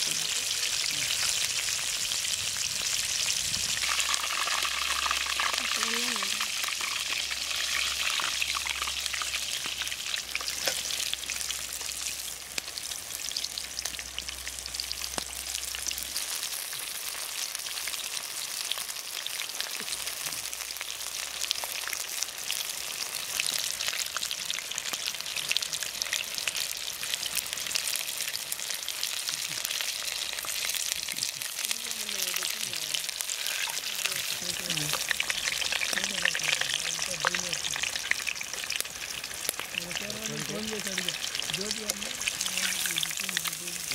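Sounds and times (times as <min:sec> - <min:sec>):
chicken deep-frying in hot oil: 0:00.0 - 0:43.9.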